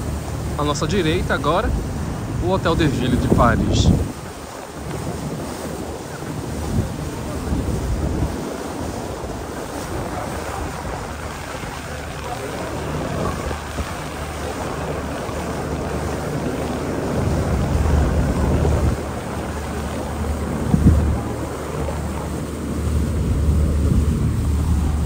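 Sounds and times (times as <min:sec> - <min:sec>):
boat engine hum: 0:00.0 - 0:25.0
wind buffeting microphone: 0:00.0 - 0:25.0.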